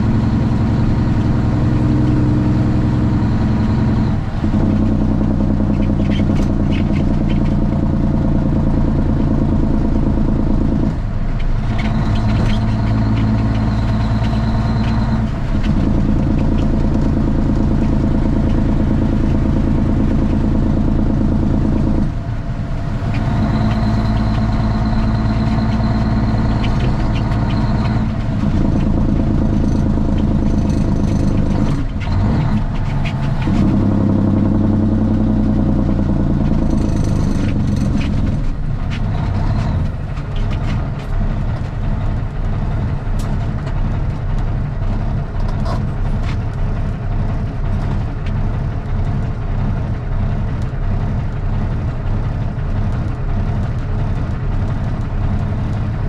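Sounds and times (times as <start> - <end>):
loud diesel truck engine: 0.0 - 56.0.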